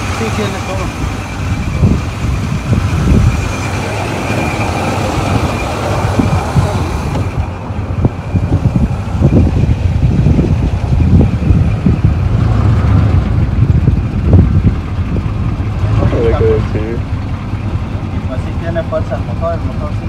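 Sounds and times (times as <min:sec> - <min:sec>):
wind buffeting microphone: 0:00.8 - 0:17.9.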